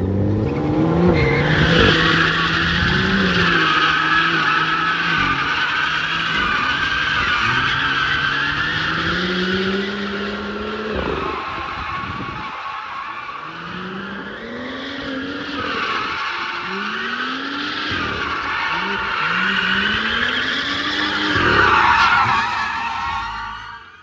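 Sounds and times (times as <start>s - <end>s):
car engine revving: 0.0s - 24.0s
tyre squeal: 0.5s - 24.0s.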